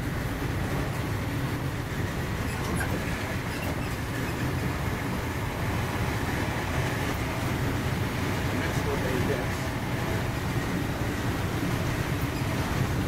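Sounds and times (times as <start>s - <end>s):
train coach rumbling: 0.0s - 13.0s.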